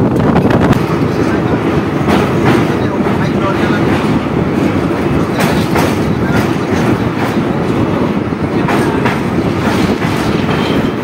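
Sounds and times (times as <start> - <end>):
train coach rumble: 0.0 - 11.0
wheels clacking over rail joints: 0.1 - 11.0.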